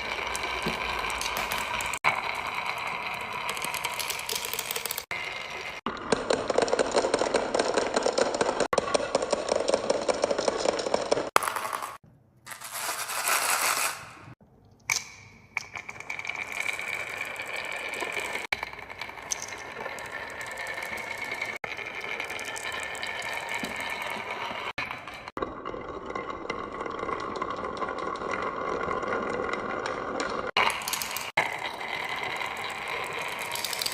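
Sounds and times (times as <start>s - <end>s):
marbles rattling down wooden run: 0.0s - 14.0s, 15.8s - 25.3s, 27.0s - 33.9s.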